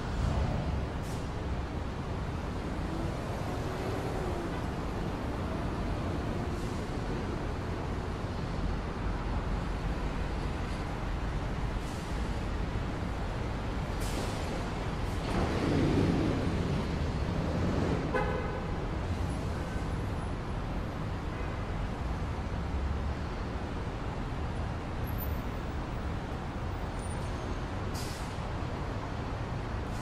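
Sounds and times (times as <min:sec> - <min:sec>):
city traffic rumble: 0:00.0 - 0:30.0.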